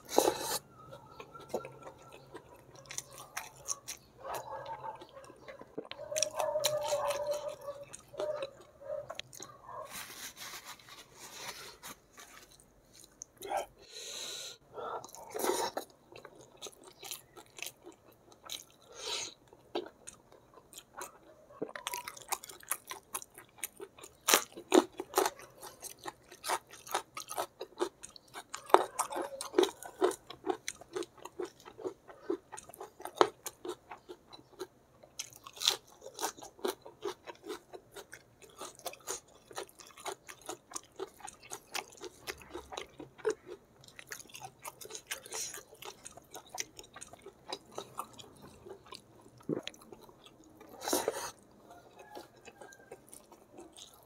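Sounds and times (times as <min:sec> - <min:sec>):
wet chewing and mouth smacks: 0:00.0 - 0:09.8, 0:15.0 - 0:54.0.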